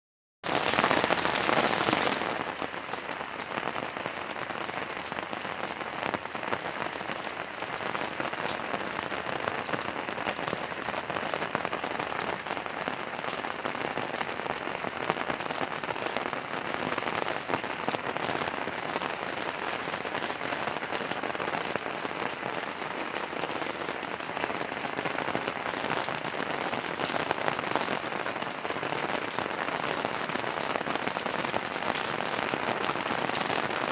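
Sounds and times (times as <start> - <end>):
steady rain falling: 0.4 - 33.9.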